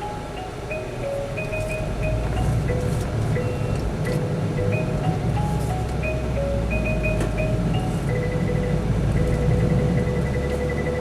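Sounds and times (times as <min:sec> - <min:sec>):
electronic chime melody: 0:00.0 - 0:11.0
vehicle engine rumble: 0:00.0 - 0:11.0.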